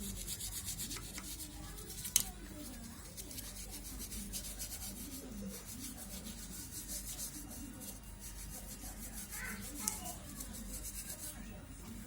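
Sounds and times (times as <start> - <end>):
rhythmic scrubbing strokes: 0.0 - 11.4
faint voices: 0.0 - 12.0.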